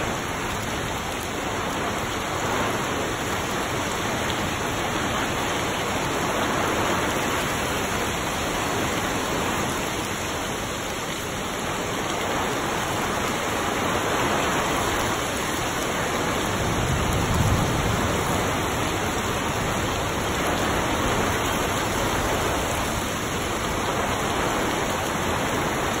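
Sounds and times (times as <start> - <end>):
heavy rain on trees and grass: 0.0 - 26.0.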